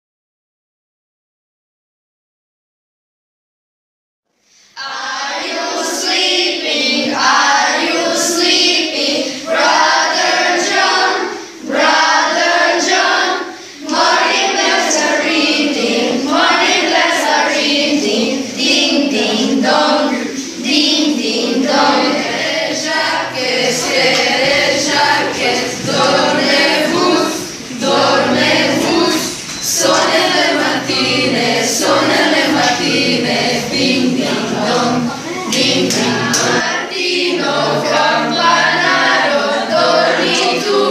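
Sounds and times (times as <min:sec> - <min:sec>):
children singing together: 0:04.5 - 0:40.9.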